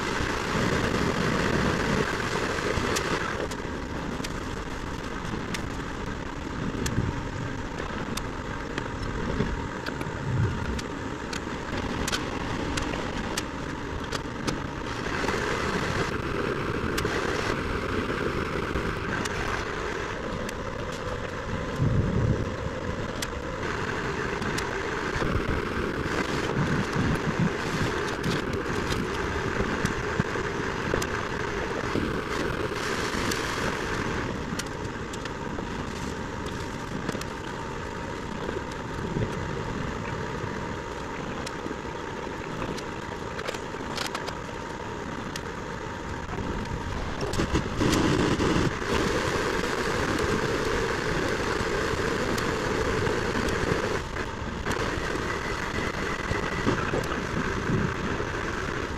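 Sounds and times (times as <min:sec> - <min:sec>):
truck engines mechanical wash: 0:00.0 - 0:58.9.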